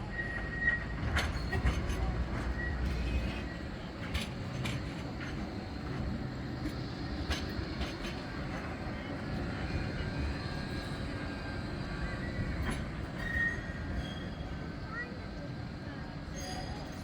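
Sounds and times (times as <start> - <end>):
tram rumbling on track: 0.0 - 17.0.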